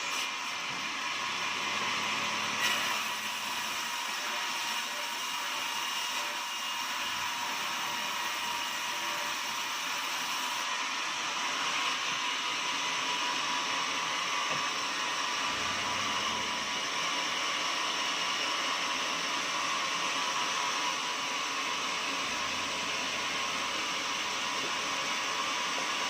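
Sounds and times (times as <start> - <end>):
sawmill machinery whine: 0.0 - 26.0.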